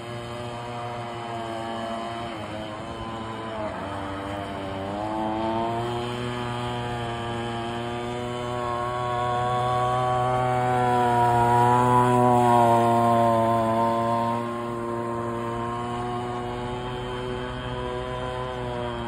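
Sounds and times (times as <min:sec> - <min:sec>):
small two-stroke boat engine: 0:00.0 - 0:19.0.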